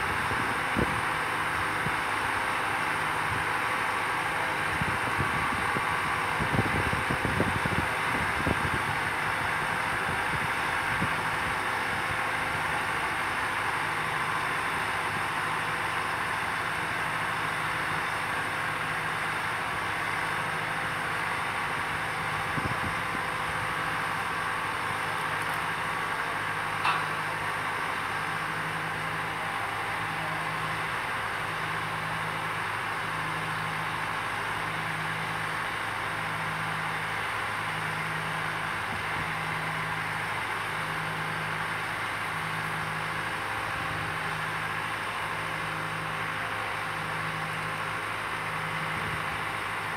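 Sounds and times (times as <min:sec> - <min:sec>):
engine running with low hum: 0:00.0 - 0:49.9.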